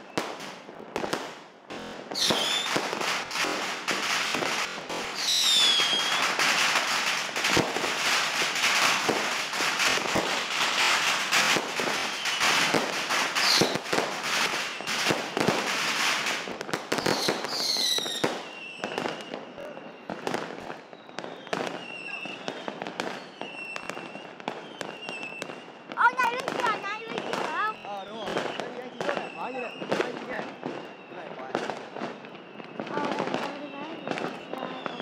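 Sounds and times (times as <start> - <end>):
fireworks crackling: 0.0 - 35.0
fireworks sharp pops: 0.0 - 35.0
falling firework whistles: 2.0 - 35.0.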